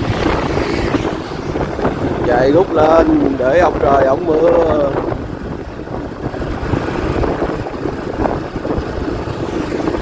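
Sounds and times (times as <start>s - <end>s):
vehicle rumbling along road: 0.0s - 10.0s.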